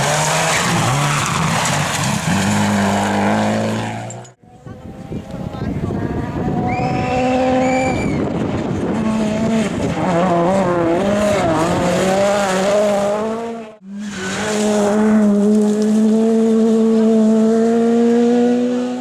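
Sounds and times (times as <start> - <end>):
rally car engine revving high: 0.0 - 19.0.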